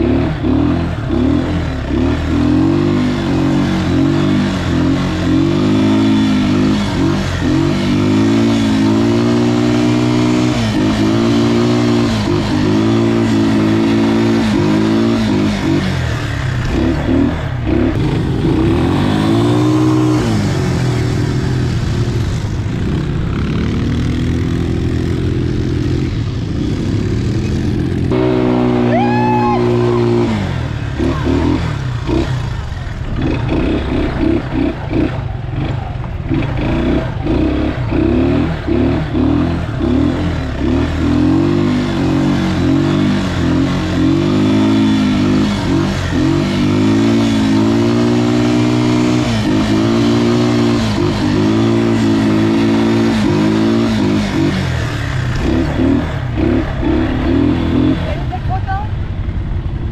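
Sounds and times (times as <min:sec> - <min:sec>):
quad bike engines revving: 0:00.0 - 0:59.9.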